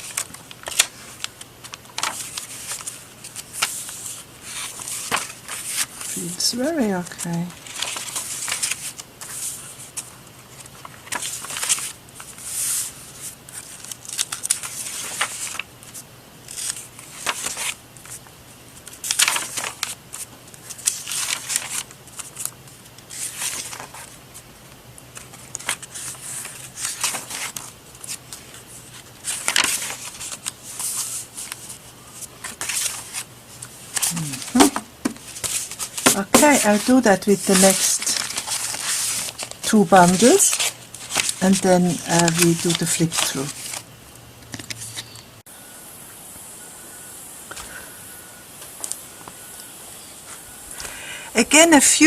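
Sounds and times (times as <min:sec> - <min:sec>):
paper sheets rustling: 0:00.0 - 0:24.5, 0:25.1 - 0:43.9.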